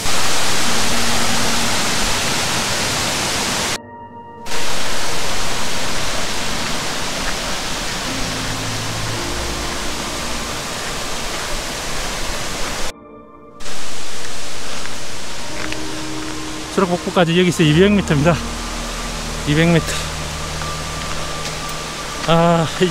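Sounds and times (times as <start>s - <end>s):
mountain stream flowing: 0.0s - 3.8s, 4.5s - 12.9s, 13.6s - 22.9s.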